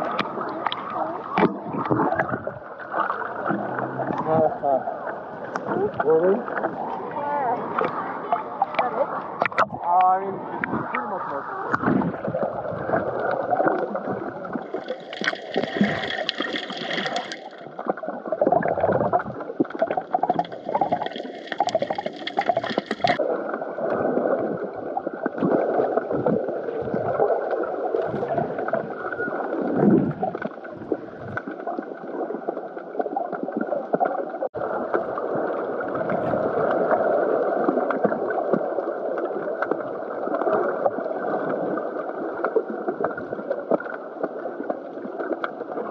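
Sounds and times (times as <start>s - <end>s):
underwater gurgling and sloshing: 0.0s - 45.9s.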